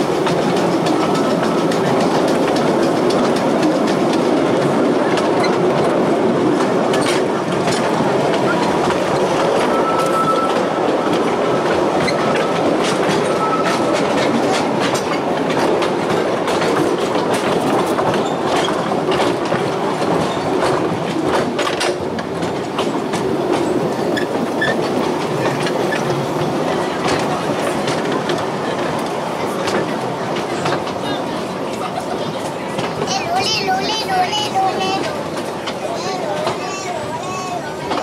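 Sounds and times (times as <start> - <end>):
railway carriage rumbling: 0.0 - 38.0
wheels clattering over rails: 0.0 - 38.0.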